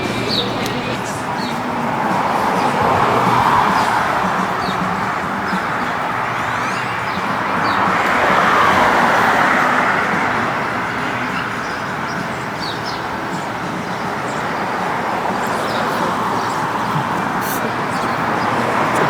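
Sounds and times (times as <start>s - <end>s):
steady traffic hum: 0.0s - 19.0s
vehicle passing: 0.0s - 19.0s.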